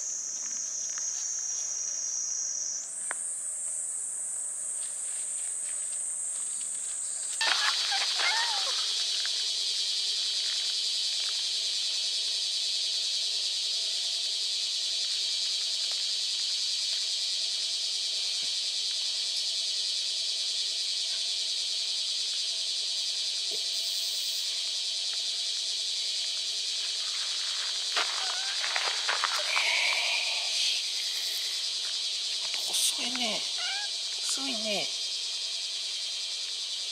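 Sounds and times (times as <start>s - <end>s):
cicadas singing: 0.0s - 36.9s.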